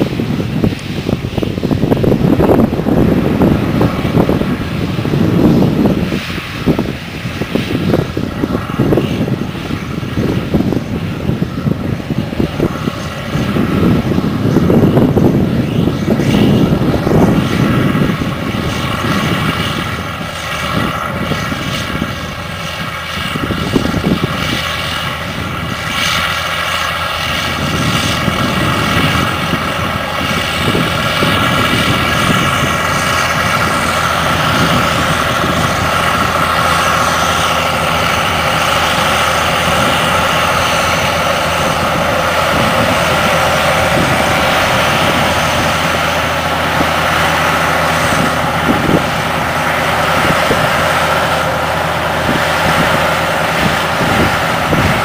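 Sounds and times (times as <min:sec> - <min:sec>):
tractor diesel engine droning: 0:00.0 - 0:55.0
wind gusts on microphone: 0:00.0 - 0:55.0.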